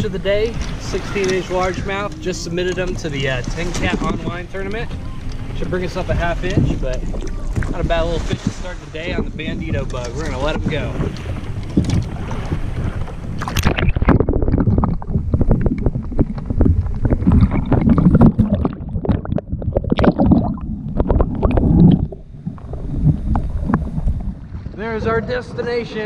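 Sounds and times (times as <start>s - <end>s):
muffled underwater bubbling: 0.0s - 25.6s
water splashing and gurgling: 0.0s - 26.0s.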